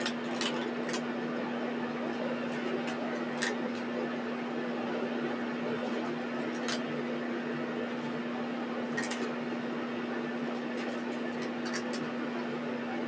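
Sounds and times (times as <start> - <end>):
appliance humming and hissing: 0.0 - 13.0.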